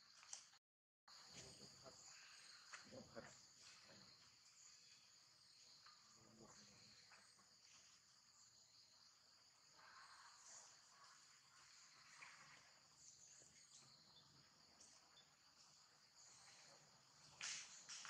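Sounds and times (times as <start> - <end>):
high-pitched insect chorus: 1.1 - 18.0.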